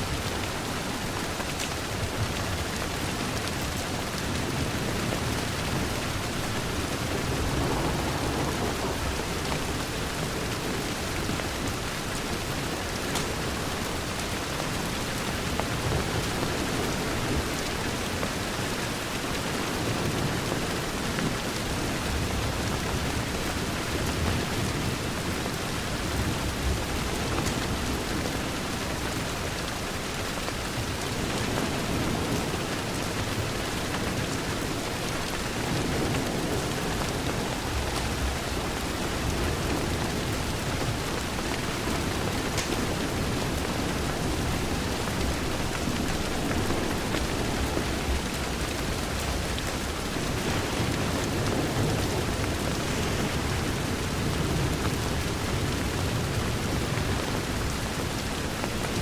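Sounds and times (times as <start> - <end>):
rain on a window pane: 0.0 - 59.0.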